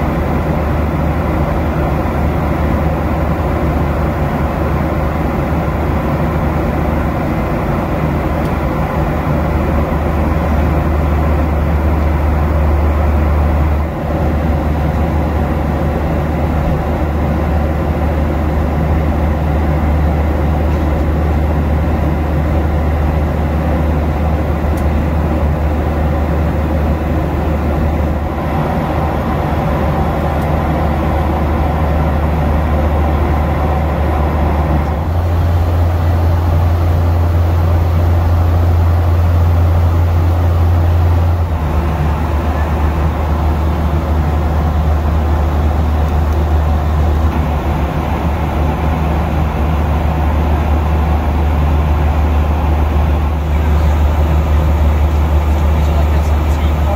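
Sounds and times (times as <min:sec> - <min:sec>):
airplane cabin drone: 0:00.0 - 0:56.9.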